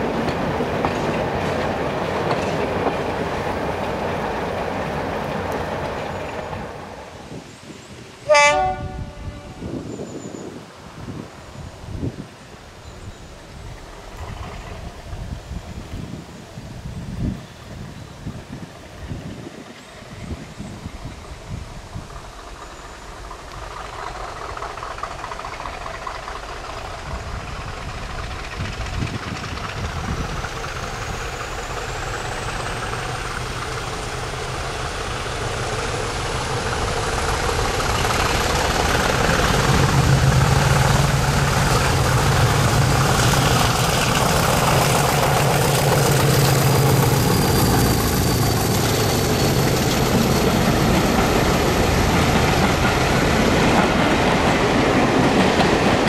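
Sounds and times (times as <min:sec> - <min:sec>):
diesel train engine: 0:00.0 - 0:10.1, 0:10.8 - 0:56.0.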